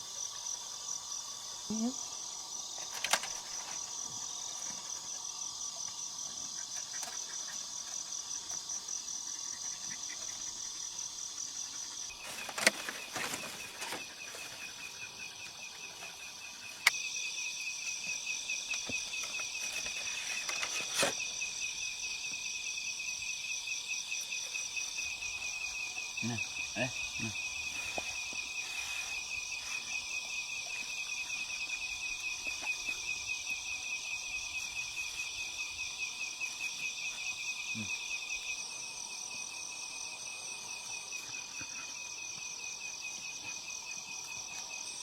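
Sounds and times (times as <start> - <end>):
insects chirring: 0.0 - 45.0
lower-pitched insect: 0.0 - 45.0.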